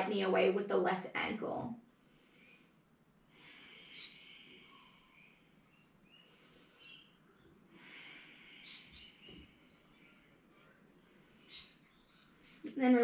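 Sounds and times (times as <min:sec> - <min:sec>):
faint bird chirps: 0:02.2 - 0:13.0.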